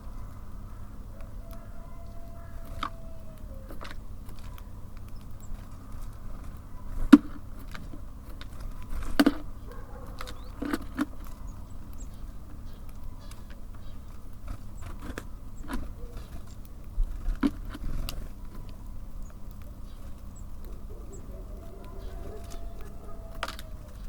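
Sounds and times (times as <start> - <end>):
birds tapping at feeder: 1.2 - 24.0.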